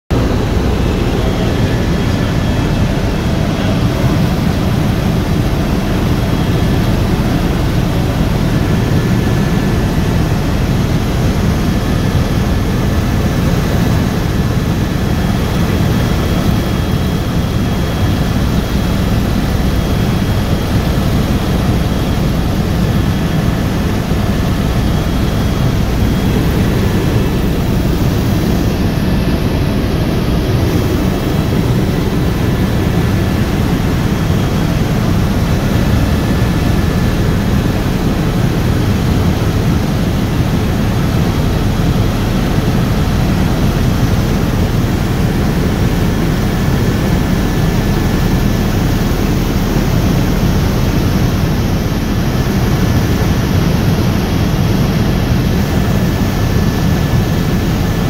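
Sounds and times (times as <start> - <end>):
helicopter engine and rotor rumble: 0.1 - 58.0.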